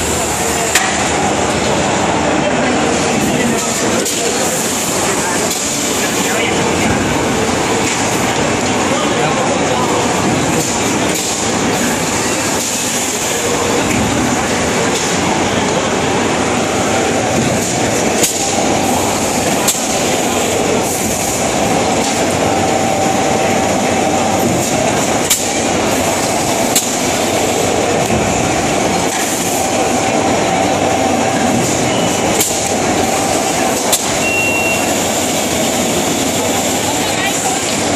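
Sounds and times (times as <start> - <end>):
machine mechanical noise: 0.0 - 37.9.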